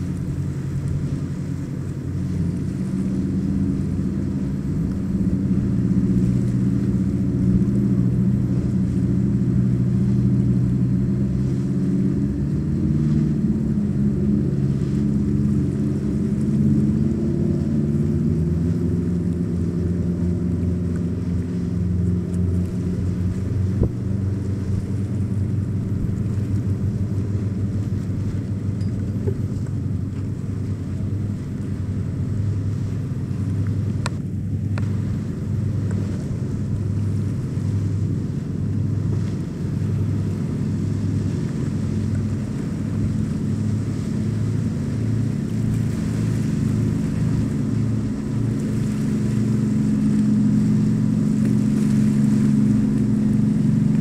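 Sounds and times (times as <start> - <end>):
boat engines droning: 0.0 - 54.0.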